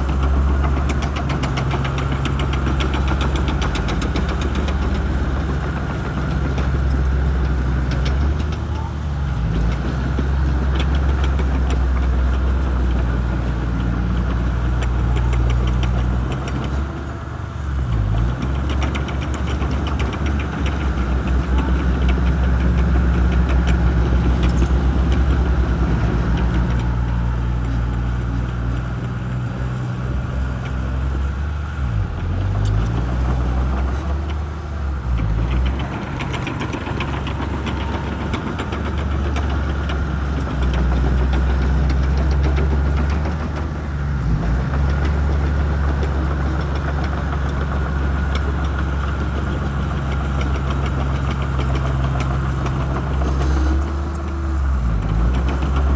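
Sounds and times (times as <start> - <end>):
bulldozer diesel engine under load: 0.0 - 55.9.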